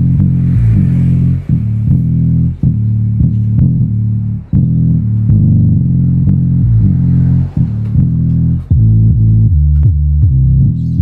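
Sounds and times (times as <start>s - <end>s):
bass-heavy music through subwoofers: 0.0s - 11.0s.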